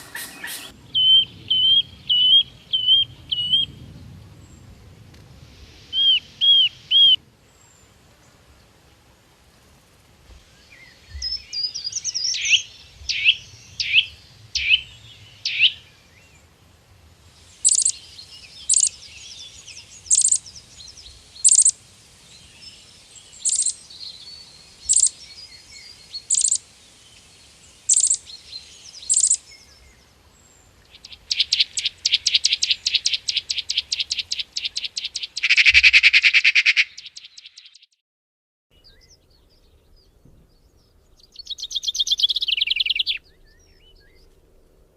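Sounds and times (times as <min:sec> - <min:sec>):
birds chirping and trilling: 0:00.0 - 0:04.7, 0:05.9 - 0:07.7, 0:10.6 - 0:16.4, 0:17.5 - 0:37.9, 0:38.8 - 0:44.9.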